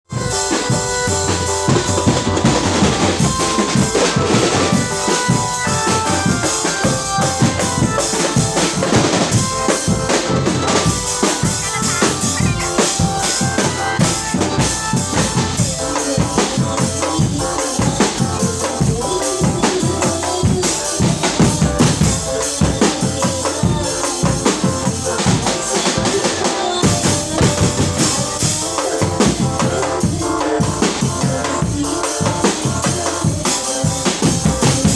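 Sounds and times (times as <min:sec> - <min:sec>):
driving drum beat: 0:00.0 - 0:34.9
melodic line of held notes: 0:00.1 - 0:33.3.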